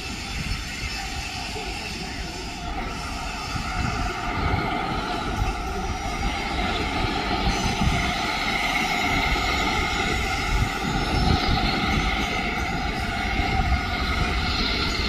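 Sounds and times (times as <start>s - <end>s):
high-pitched ringing: 0.0s - 15.0s
steam locomotive rumble: 0.0s - 15.0s.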